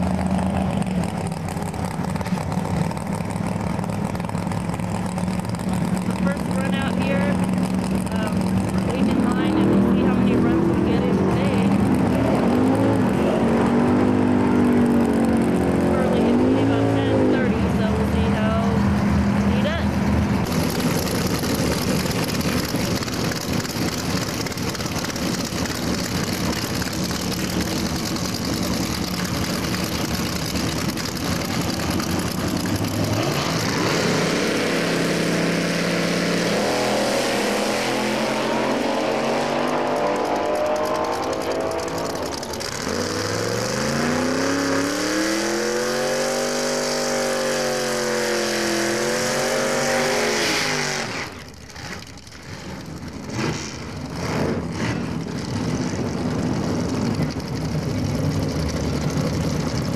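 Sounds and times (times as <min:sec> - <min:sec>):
drag racing engines roaring: 0:00.0 - 0:59.9
engine revving: 0:00.0 - 0:59.9.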